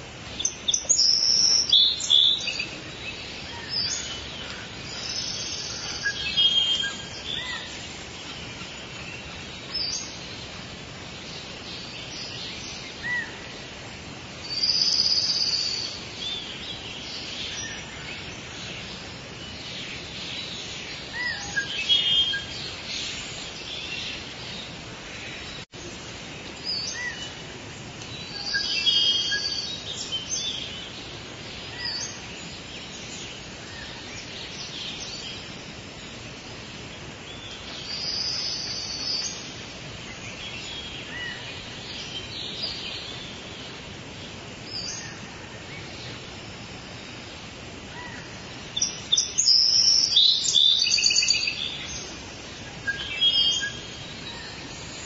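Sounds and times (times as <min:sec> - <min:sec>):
songbirds singing: 0:00.0 - 0:55.0
steady background hiss: 0:00.0 - 0:55.0.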